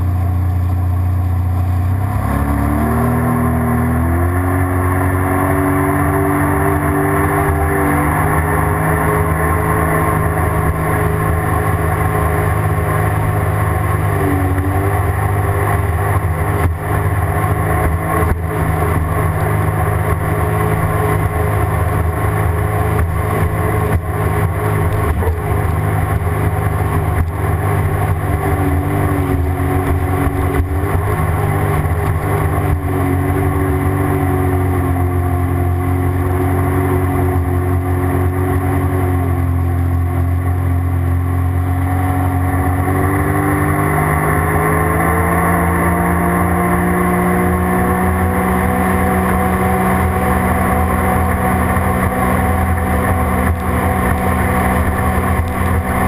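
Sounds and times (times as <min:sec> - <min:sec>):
watercraft engine running: 0:00.0 - 0:56.0.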